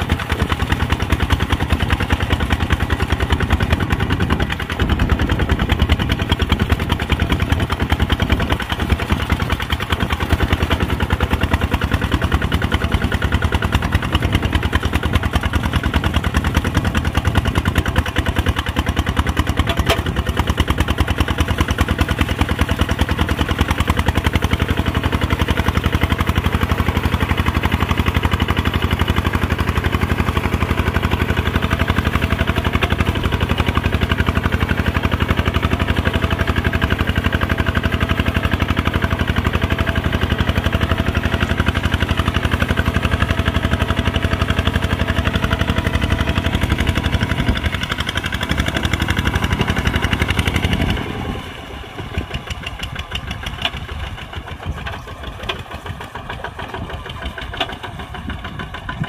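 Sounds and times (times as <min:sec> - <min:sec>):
diesel tractor engine chugging: 0:00.0 - 0:59.0.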